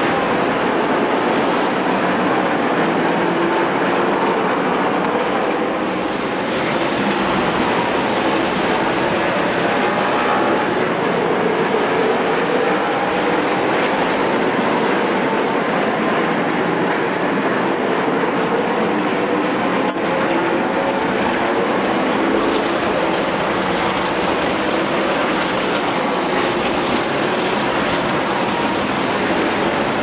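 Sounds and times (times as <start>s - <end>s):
race truck engines droning: 0.0s - 30.0s.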